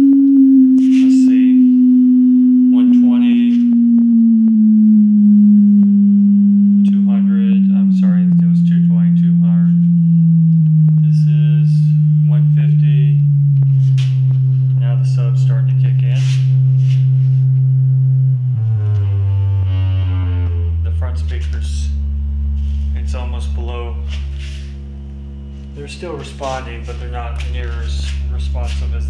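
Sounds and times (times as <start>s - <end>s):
low test tone from subwoofer: 0.0s - 29.0s.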